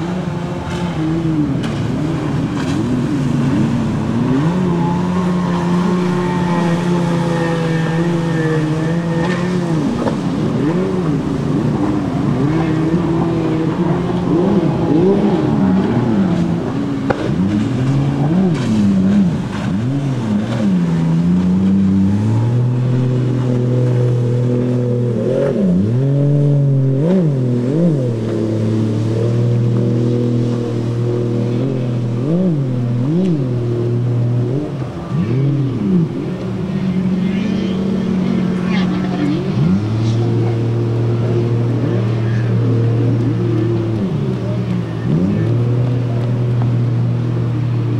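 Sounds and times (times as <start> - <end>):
jet ski engine revving: 0.0 - 47.9.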